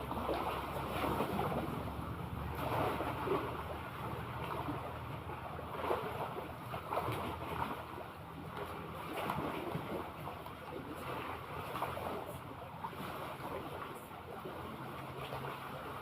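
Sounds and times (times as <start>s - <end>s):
sea waves: 0.0s - 16.0s.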